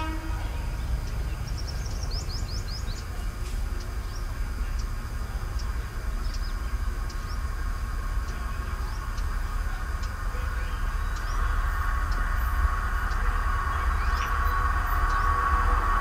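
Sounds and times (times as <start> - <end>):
birds chirping: 0.0 - 16.0
train rumbling: 0.0 - 16.0.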